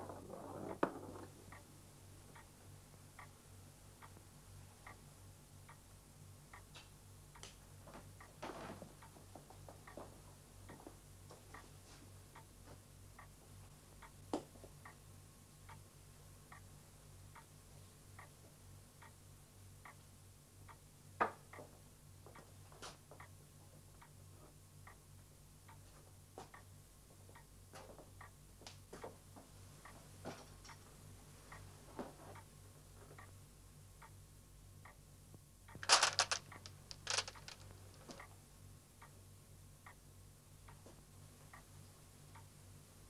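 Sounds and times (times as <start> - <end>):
faint low hum: 0.0 - 43.0
clock ticking: 0.1 - 43.0.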